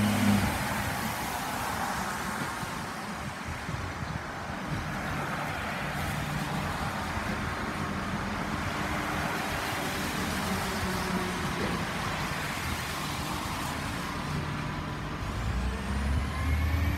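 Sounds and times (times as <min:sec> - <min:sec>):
car tyres on wet road: 0:00.0 - 0:16.9.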